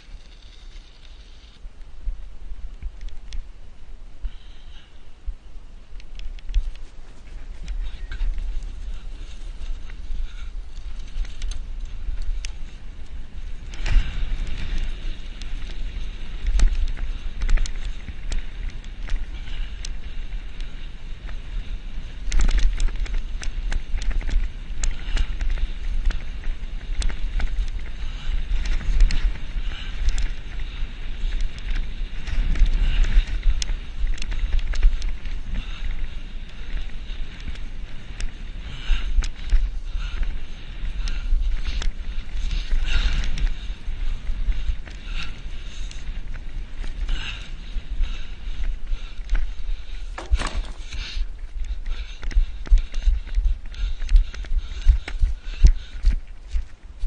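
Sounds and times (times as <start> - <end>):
bike rattling: 0.0 - 5.0, 6.0 - 57.0
wind rumbling on microphone: 0.0 - 57.0
sharp clicks and knocks from bumps: 5.9 - 21.5, 22.2 - 47.2, 48.6 - 56.8.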